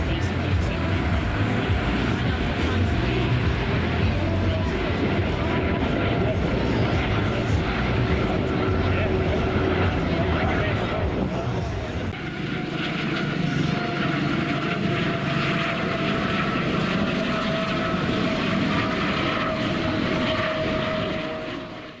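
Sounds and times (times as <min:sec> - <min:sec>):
engine running with whine: 0:00.0 - 0:22.0.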